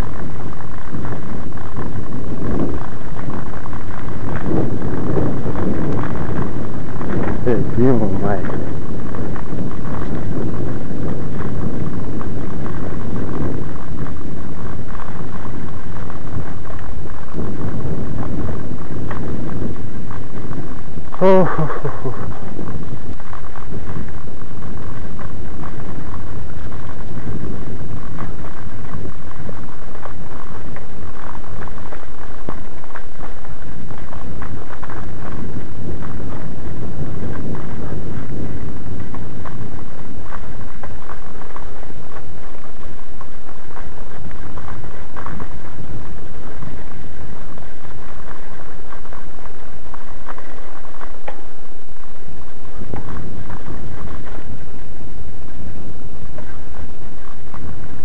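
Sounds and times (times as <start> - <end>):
mountain bike rattling and knocking: 0.0 - 54.9
wind buffeting microphone: 0.0 - 58.0.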